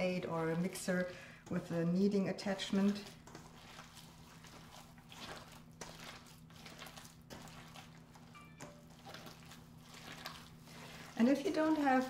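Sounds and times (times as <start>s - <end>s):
low steady hum: 0.0s - 12.0s
wet squishing of meat mixture: 0.0s - 12.0s.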